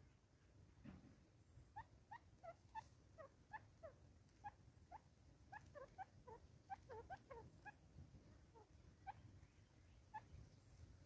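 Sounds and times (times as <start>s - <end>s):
faint bird calls: 1.7s - 11.0s.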